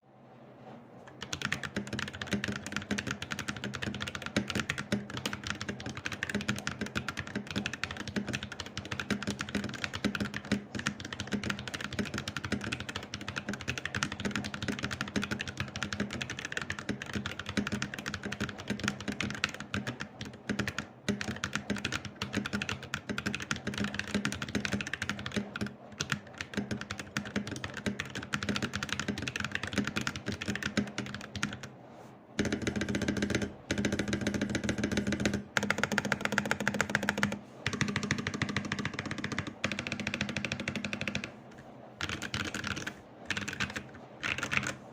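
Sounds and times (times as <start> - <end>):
mechanical keyboard typing: 1.1 - 31.8, 32.4 - 41.4, 42.0 - 44.8.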